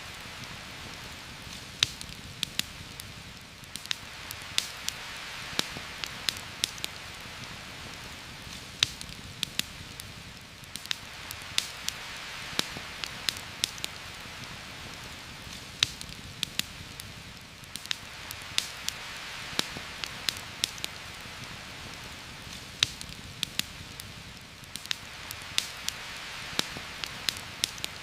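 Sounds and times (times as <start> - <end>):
campfire crackling: 0.0 - 28.0
heavy rain: 0.0 - 28.0.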